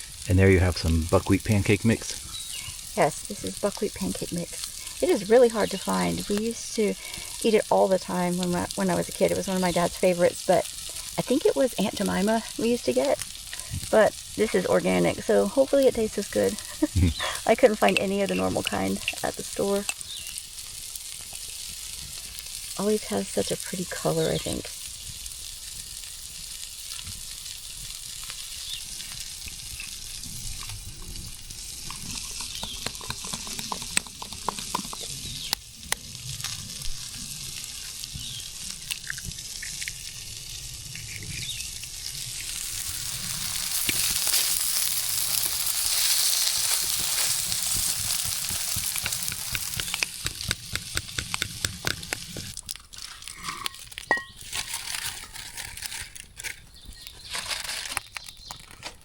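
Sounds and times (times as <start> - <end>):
food sizzling in a pan: 0.0 - 56.1.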